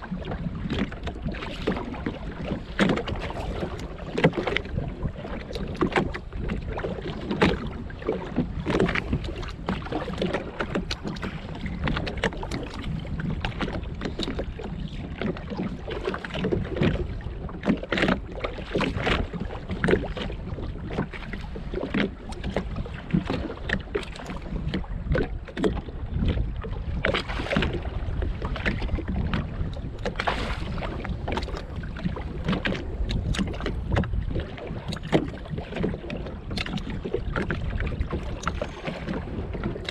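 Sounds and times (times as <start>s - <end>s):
waves slapping against hull: 0.0s - 39.9s
wind buffeting microphone: 0.0s - 39.9s.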